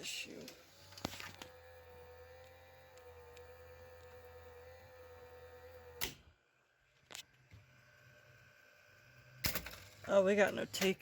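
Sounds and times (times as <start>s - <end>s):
video recorder humming: 0.0s - 11.0s.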